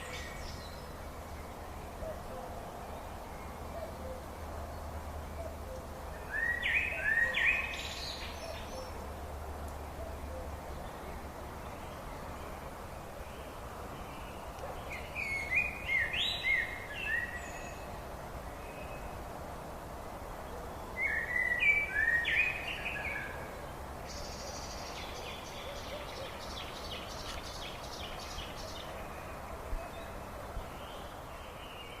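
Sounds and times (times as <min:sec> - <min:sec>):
songbird singing: 0:00.0 - 0:32.0
steady outdoor hiss: 0:00.0 - 0:32.0.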